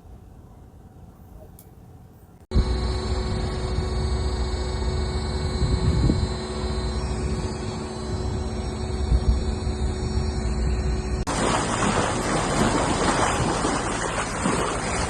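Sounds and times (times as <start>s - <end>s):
motor running: 2.5s - 15.0s.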